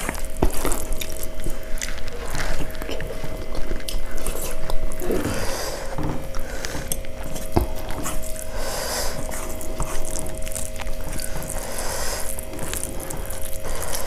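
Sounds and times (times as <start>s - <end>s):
chewing and lip-smacking: 0.0s - 14.0s
faint steady hum: 0.0s - 14.0s
fingers mashing rice on plates: 0.0s - 14.0s.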